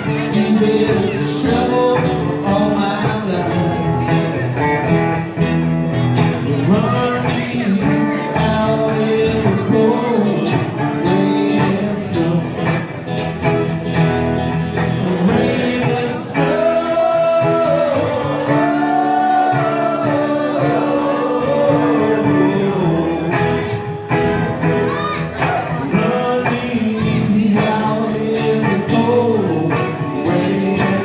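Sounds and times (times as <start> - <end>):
guitar accompaniment: 0.0 - 31.0.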